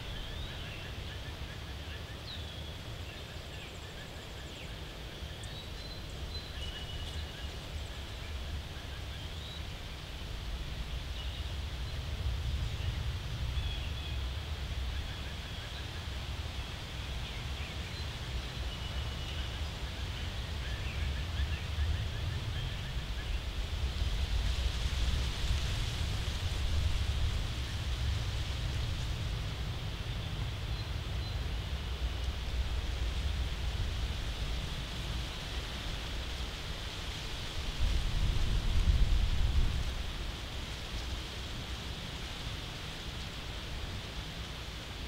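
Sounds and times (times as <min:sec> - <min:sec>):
wind rumble on microphone: 0:00.0 - 0:45.0.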